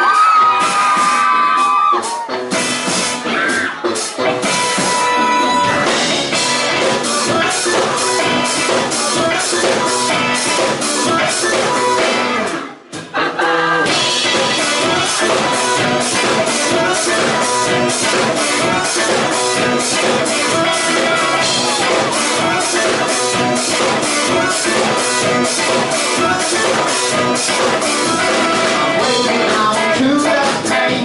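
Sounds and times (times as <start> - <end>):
rock band playing: 0.0 - 31.0.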